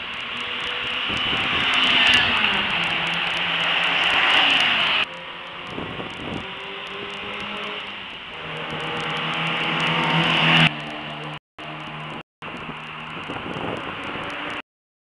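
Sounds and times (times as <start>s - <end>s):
car approaching: 0.0s - 14.6s.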